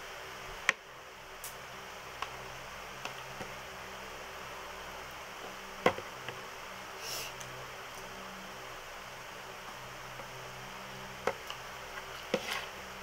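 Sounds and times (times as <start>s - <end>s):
steady fan-like hiss: 0.0s - 13.0s.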